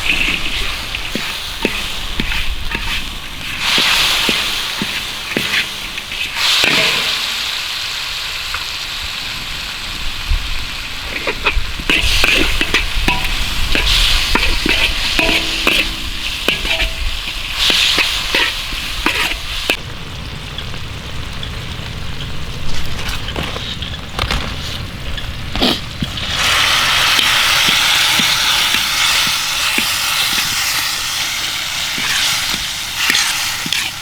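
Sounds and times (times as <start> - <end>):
utensil scraping a pan: 0.0 - 7.6, 11.0 - 19.8, 23.0 - 34.0
food sizzling: 0.0 - 34.0.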